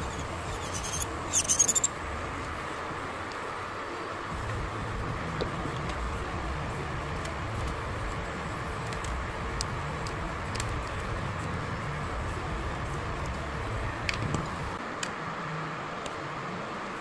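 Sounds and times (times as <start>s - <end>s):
fan whirring: 0.0s - 17.0s.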